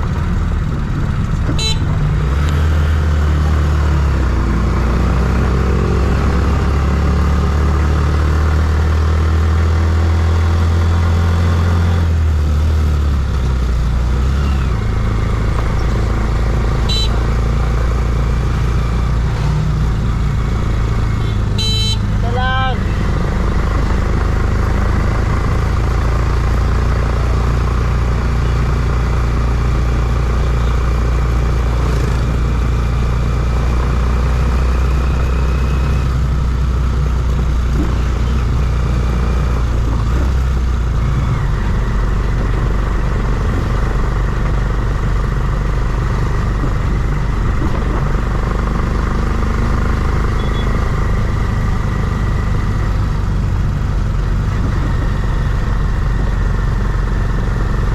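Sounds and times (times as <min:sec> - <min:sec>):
vehicle engine low hum: 0:00.0 - 0:57.9.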